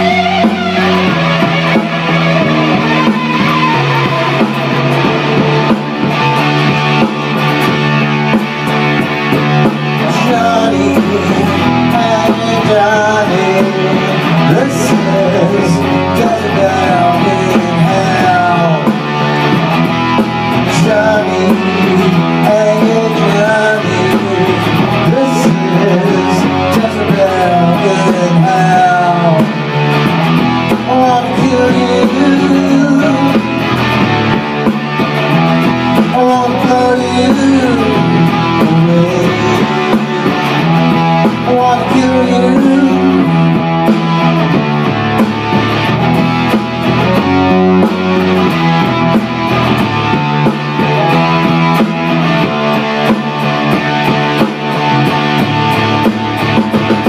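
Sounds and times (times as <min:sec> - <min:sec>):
electric guitar rock part: 0:00.0 - 0:57.0
programmed bass and drums: 0:00.0 - 0:57.0.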